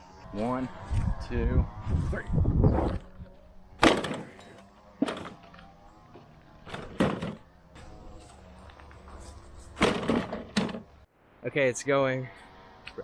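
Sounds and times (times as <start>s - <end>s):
engine low hum: 0.0s - 11.4s.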